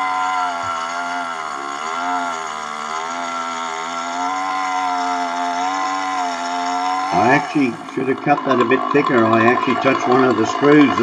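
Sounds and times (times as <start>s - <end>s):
chainsaw ripping wood: 0.0s - 11.0s.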